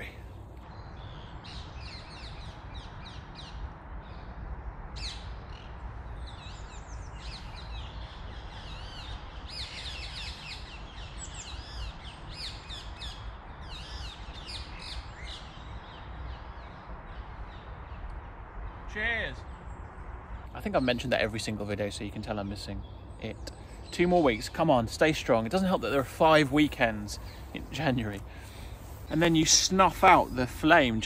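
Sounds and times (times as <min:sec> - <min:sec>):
songbirds chirping and whistling: 0:00.0 - 0:31.0.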